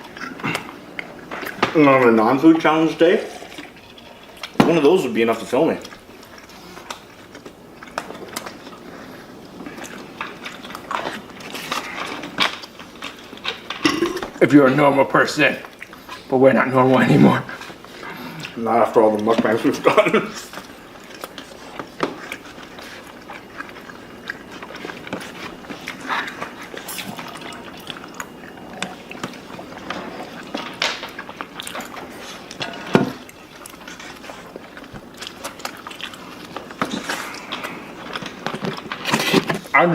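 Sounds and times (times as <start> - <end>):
people chewing food: 0.0 - 39.9.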